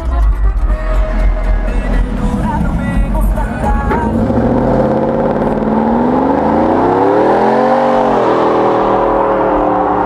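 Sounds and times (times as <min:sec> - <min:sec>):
truck engine revving: 0:00.1 - 0:10.0.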